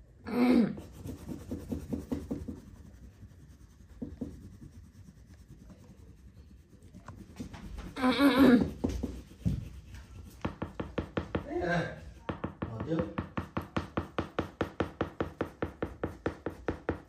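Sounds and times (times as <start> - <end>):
crayon rubbing on paper: 0.4 - 17.0.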